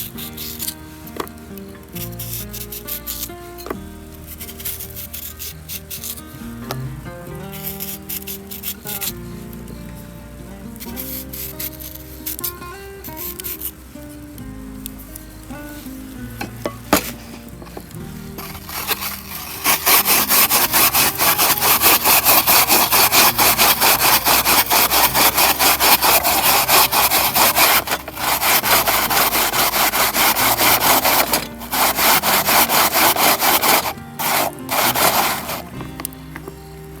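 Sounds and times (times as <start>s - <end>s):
rasping strokes: 0.0s - 36.1s.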